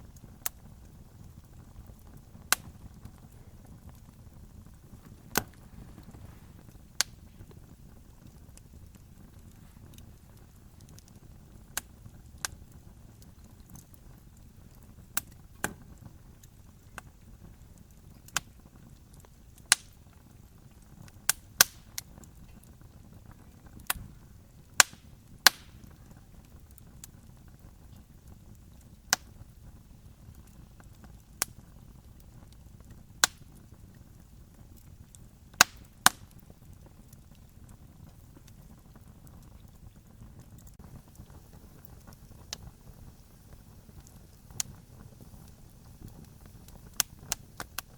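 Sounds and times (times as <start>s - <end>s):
campfire crackling: 0.0s - 47.9s
low rumble of burning fire: 0.0s - 47.9s.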